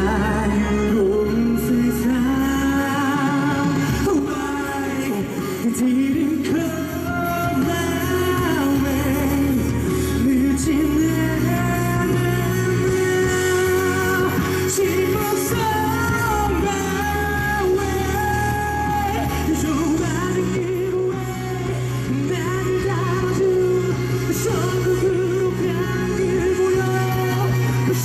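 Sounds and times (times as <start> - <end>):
band backing track: 0.0 - 28.0
man singing pop song: 0.0 - 28.0.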